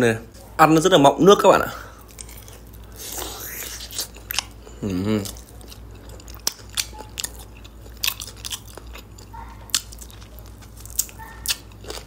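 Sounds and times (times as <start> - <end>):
wet chewing and biting: 2.0 - 12.0.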